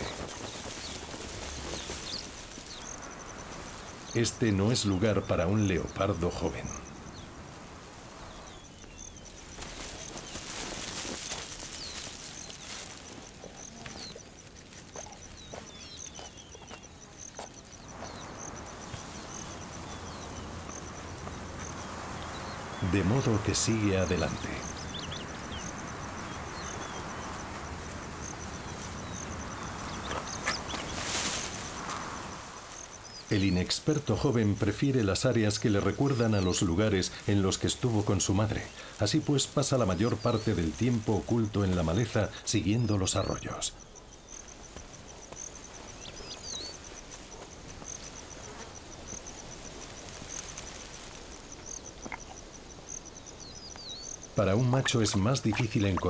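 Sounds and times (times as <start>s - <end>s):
insect chirping: 0.0s - 56.0s
steady hiss: 0.0s - 56.0s.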